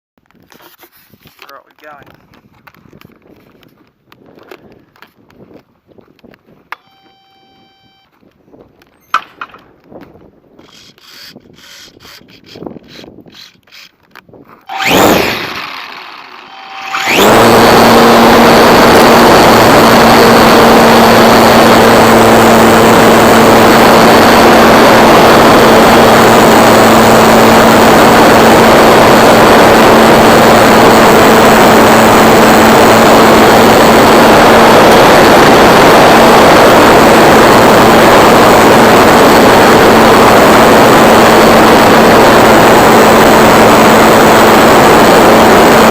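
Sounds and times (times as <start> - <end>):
model plane motor and propeller: 0.2 - 5.1, 10.6 - 45.9.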